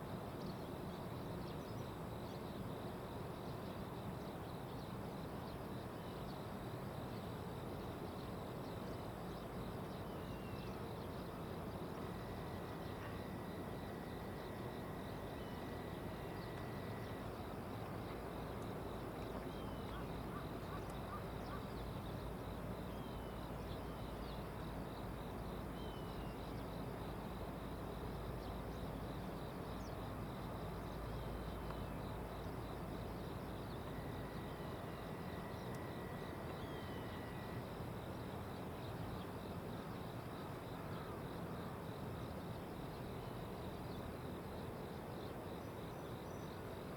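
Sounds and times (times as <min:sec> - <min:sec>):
insects trilling: 0:07.8 - 0:46.9.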